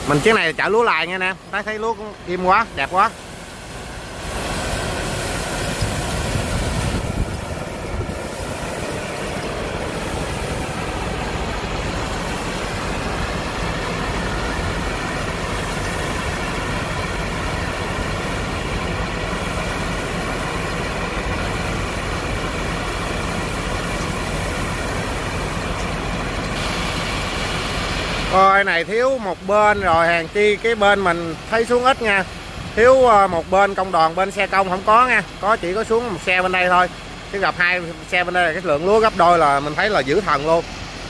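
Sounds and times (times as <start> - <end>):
belt conveyor rumbling: 0.0 - 41.0
rice pouring: 0.0 - 41.0.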